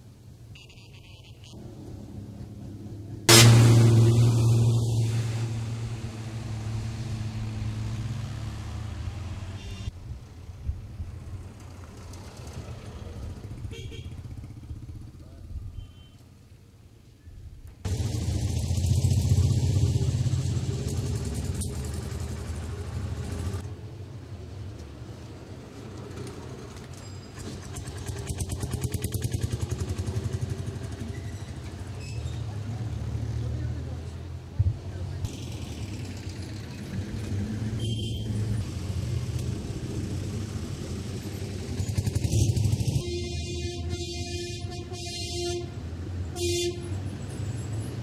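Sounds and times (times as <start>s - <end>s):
vehicle engine rumbling: 0.0s - 16.8s, 17.4s - 48.0s.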